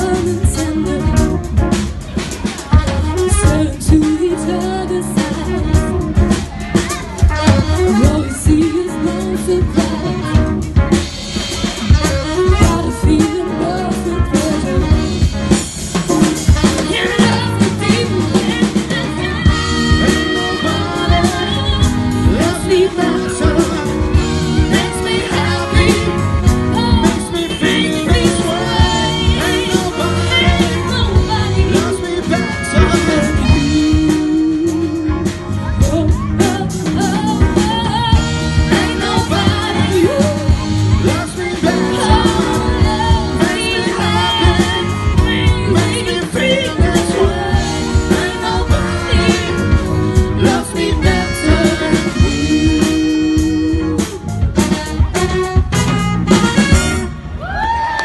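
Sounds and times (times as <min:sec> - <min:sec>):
live rock band playing: 0:00.0 - 0:58.0
person singing: 0:02.7 - 0:10.7, 0:12.0 - 0:15.3, 0:16.4 - 0:55.6.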